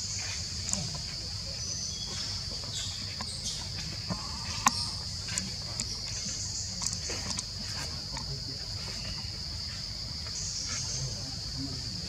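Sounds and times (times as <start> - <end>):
insects droning high: 0.0 - 12.0.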